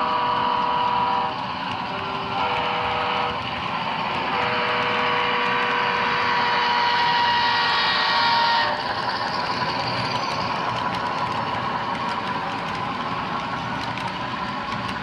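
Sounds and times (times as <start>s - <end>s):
model train running noise: 0.0s - 15.0s.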